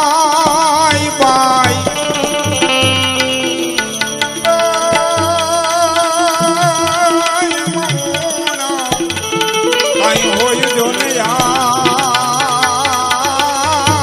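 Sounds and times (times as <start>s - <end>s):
man singing: 0.0s - 14.0s
tabla strokes: 0.0s - 14.0s.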